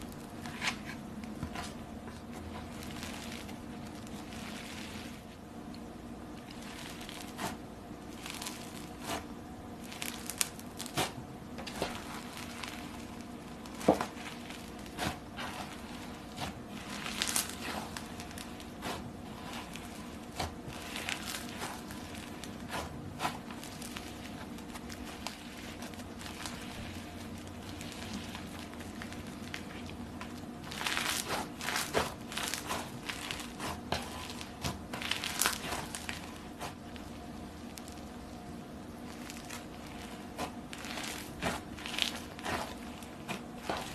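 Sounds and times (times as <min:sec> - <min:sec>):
slime crackling and popping: 0:02.5 - 0:43.9.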